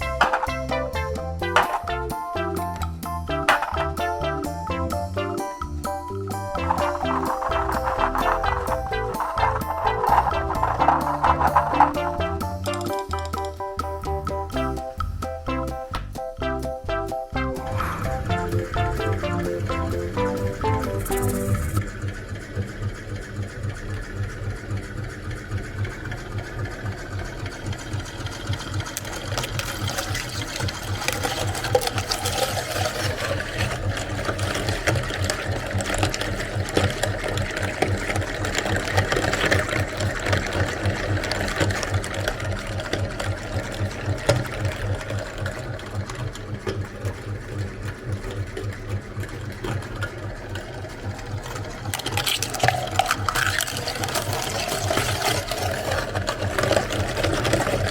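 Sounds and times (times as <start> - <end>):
meat grinder clattering: 0.0 - 15.8, 17.6 - 57.9.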